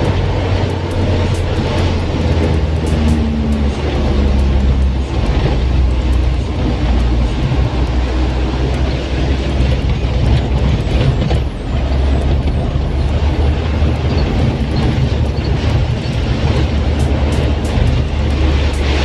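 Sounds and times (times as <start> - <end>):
diesel engine rumble: 0.0 - 19.0
road noise hiss: 0.0 - 19.0.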